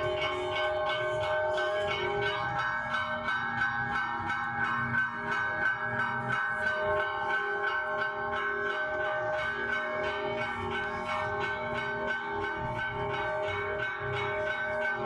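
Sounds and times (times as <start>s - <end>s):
bells ringing: 0.0s - 15.0s.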